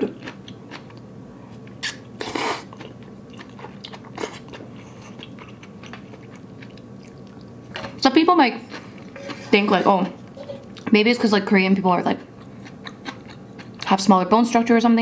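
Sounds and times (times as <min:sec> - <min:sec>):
person chewing food: 0:00.0 - 0:10.9, 0:12.2 - 0:13.9.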